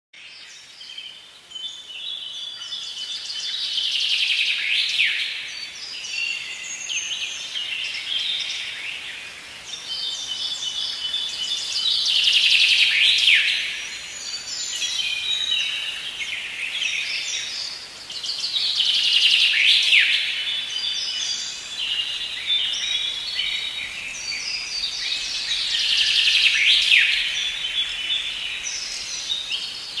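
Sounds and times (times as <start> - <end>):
steady background hiss: 0.2 - 30.0
birds chirping and singing: 0.3 - 30.0.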